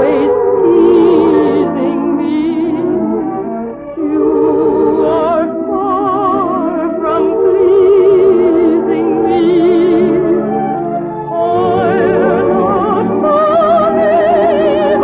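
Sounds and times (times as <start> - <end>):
operatic voice singing with vibrato: 0.0 - 15.0
orchestra playing: 0.0 - 15.0.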